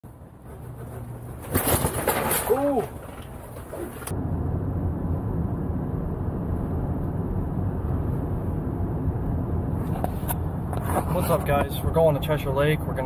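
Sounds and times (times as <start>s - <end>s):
road and engine rumble in vehicle: 0.0s - 13.0s.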